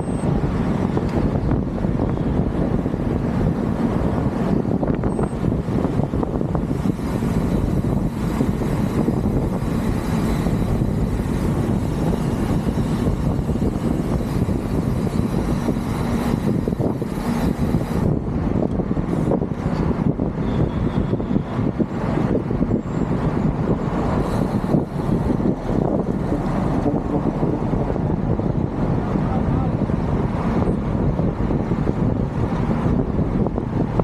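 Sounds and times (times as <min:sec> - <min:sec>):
wind and road noise rumble: 0:00.0 - 0:34.0.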